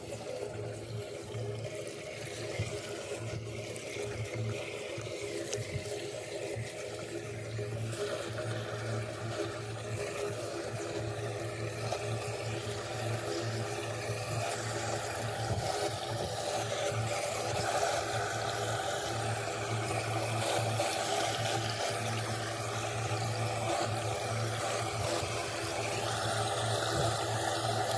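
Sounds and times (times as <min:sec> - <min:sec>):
low mechanical hum: 0:00.0 - 0:27.9
water running into storm drain: 0:00.0 - 0:27.9.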